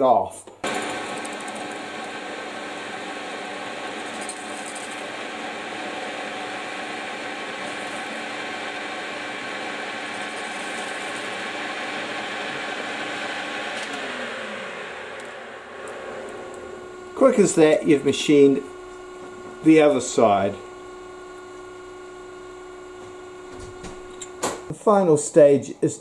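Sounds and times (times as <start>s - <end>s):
lathe humming and whining: 0.6s - 26.0s.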